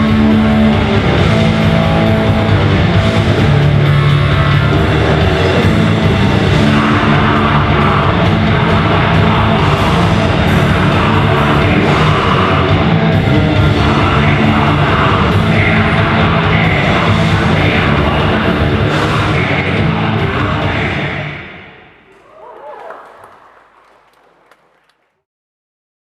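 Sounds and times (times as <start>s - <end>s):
bass guitar: 0.0s - 21.5s
distorted guitars: 0.0s - 22.2s
drums: 0.0s - 24.8s.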